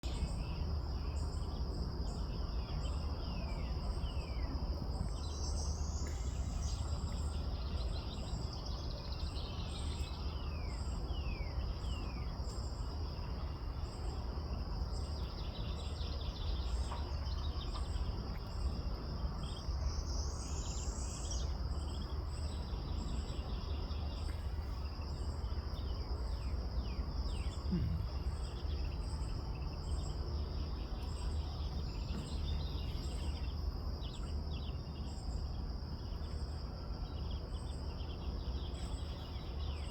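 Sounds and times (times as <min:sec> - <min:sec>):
high insect drone: 0:00.0 - 0:39.9
low steady rumble: 0:00.0 - 0:39.9
pulsing insect chirp: 0:00.0 - 0:39.9.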